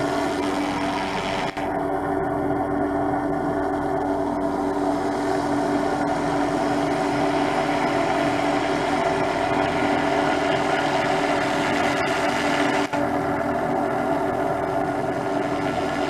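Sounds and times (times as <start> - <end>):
helicopter turbine and rotors whine: 0.0 - 16.0.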